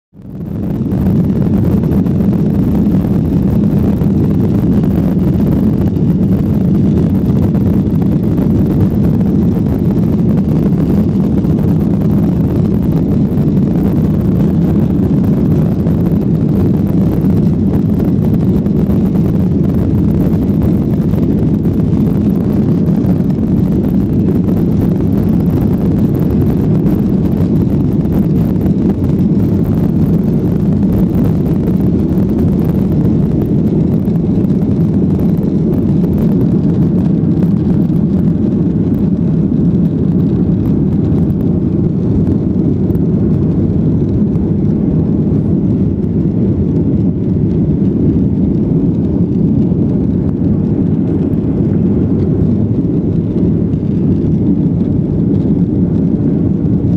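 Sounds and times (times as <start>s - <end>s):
jet engines rumbling in cabin: 0.1s - 56.9s.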